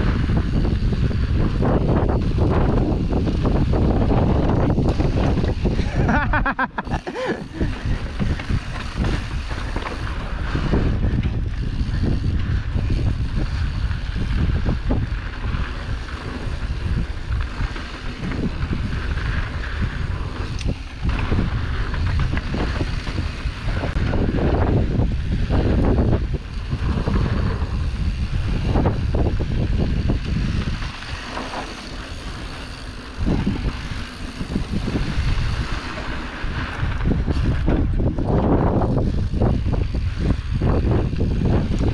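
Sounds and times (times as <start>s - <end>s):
bike knocking and rattling: 0.0s - 41.9s
bike tyres on dirt: 0.0s - 41.9s
wind on microphone: 0.0s - 41.9s.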